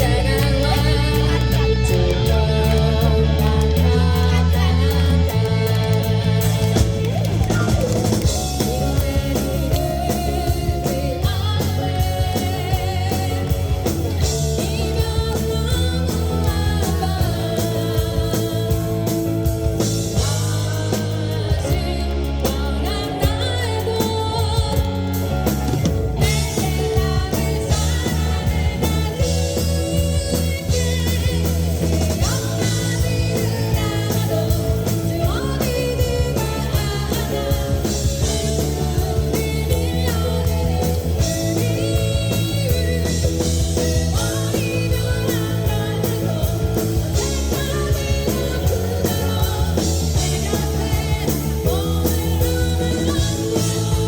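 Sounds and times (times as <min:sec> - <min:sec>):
bass guitar: 0:00.0 - 0:54.0
drum kit: 0:00.0 - 0:54.0
electric guitar: 0:00.0 - 0:54.0
person singing: 0:00.0 - 0:54.0.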